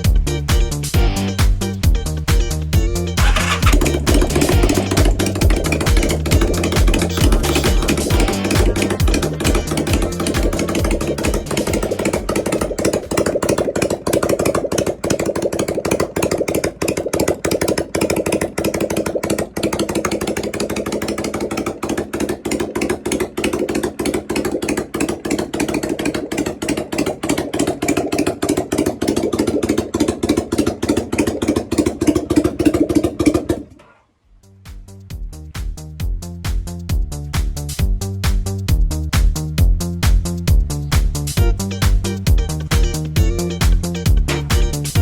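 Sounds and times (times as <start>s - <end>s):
motorcycle engine idling: 2.7s - 37.2s, 39.6s - 45.0s.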